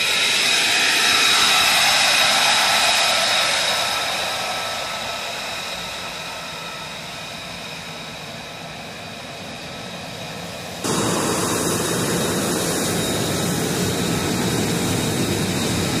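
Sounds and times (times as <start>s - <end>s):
jet engine whine and roar: 0.0s - 16.0s.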